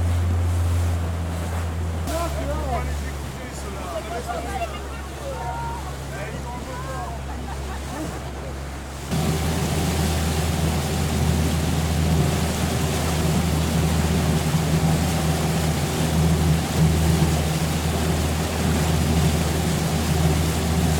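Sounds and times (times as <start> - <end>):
boat engine humming: 0.0 - 20.9.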